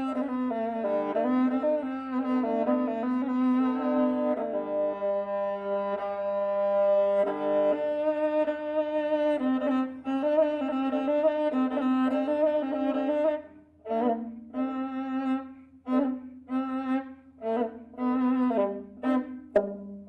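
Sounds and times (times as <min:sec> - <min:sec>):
bowed fiddle melody over drone: 0:00.0 - 0:20.0.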